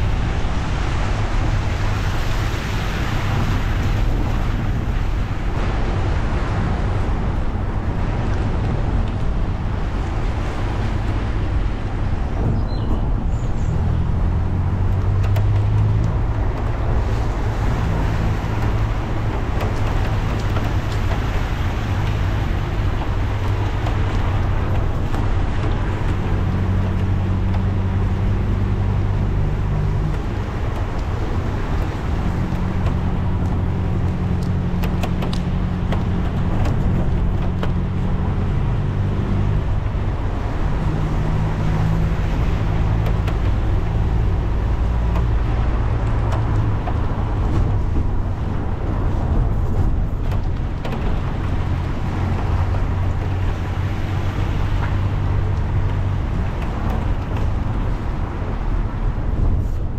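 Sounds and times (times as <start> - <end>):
tyres hissing on wet road: 0.0 - 8.7, 13.3 - 59.9
car engine hum: 0.0 - 59.9.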